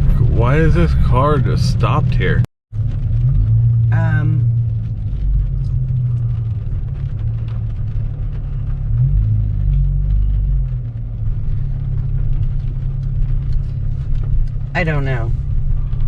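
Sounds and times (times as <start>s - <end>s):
car engine rumble from inside: 0.0s - 16.0s.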